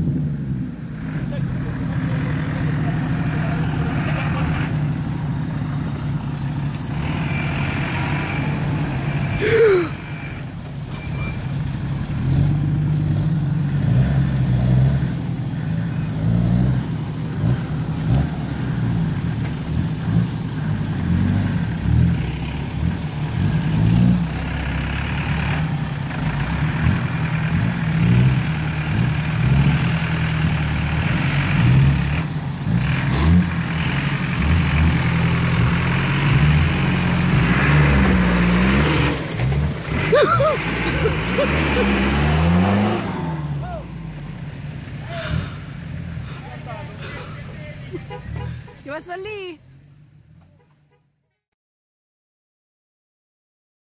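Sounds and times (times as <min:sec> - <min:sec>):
vehicle engine revving under load: 0:00.0 - 0:50.9.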